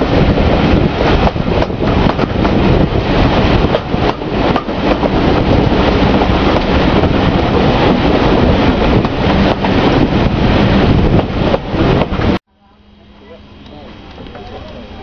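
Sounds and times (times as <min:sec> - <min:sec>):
wind buffeting microphone: 0:00.0 - 0:12.4
train coaches running on track: 0:00.0 - 0:15.0.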